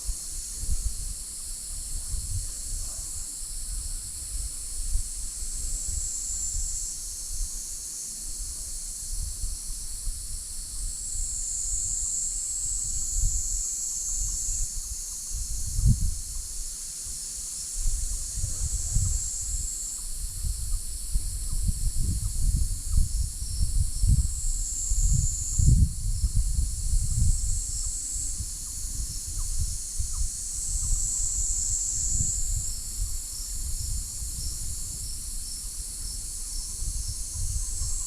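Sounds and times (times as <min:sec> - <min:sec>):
insects droning: 0:00.0 - 0:38.0
wind rumble on microphone: 0:00.0 - 0:38.0.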